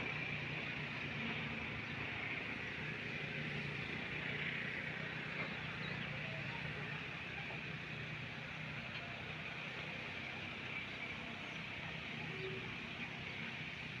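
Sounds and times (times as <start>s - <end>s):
distant engines humming: 0.0s - 14.0s.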